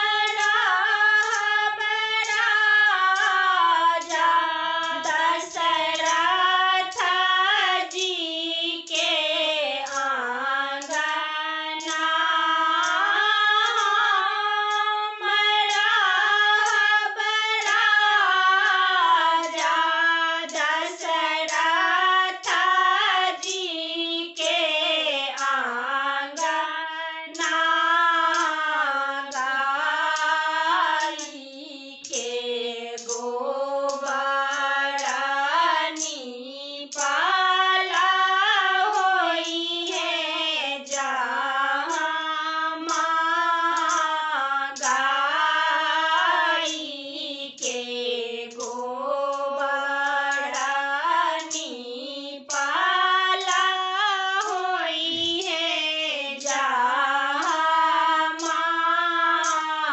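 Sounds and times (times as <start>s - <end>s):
women singing folk song unaccompanied: 0.0s - 59.9s.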